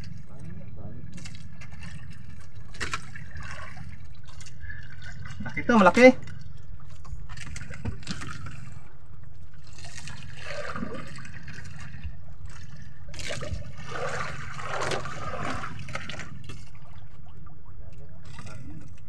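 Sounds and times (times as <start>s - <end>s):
water splashing against boat hull: 0.0s - 19.0s.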